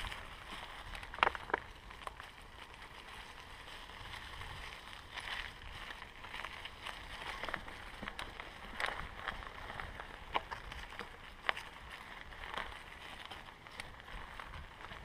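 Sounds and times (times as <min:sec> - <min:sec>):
bike rattles and clicks: 0:00.0 - 0:15.0
bike tyres on dry leaves: 0:00.0 - 0:15.0
wind rumble on microphone: 0:00.0 - 0:15.0.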